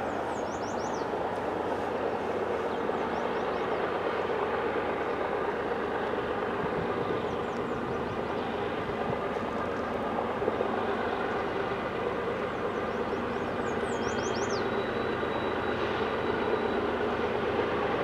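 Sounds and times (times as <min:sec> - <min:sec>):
diesel freight train rumbling: 0:00.0 - 0:18.0.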